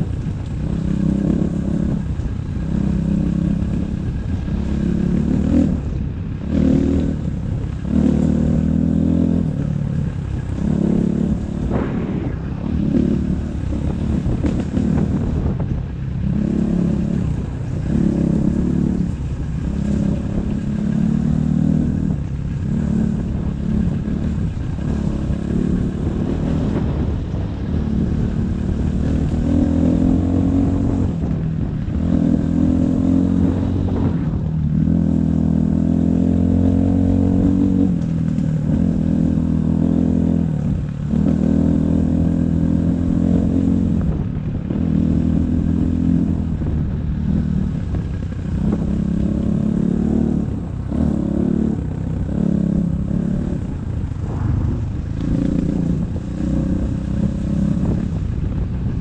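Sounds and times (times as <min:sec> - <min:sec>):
dirt bike engine revving: 0:00.0 - 0:15.6, 0:16.2 - 0:58.6.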